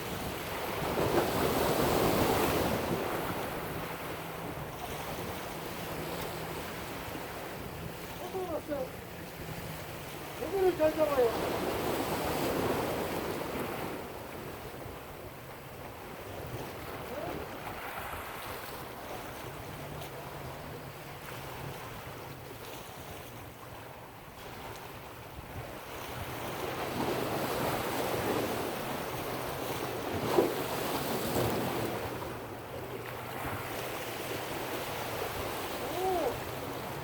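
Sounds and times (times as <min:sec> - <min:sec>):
ocean surf washing on shore: 0:00.0 - 0:37.0.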